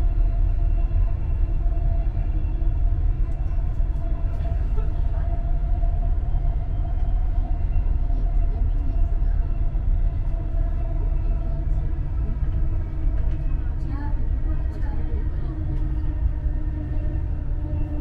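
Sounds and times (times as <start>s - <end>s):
train rumble inside cabin: 0.0s - 18.0s.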